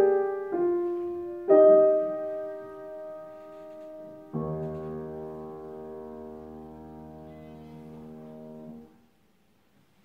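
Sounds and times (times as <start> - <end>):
grand piano chord ringing: 0.0 - 9.0.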